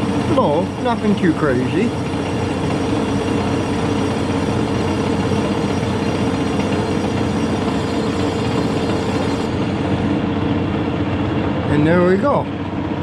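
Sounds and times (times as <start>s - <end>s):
metal lathe humming: 0.0s - 11.7s.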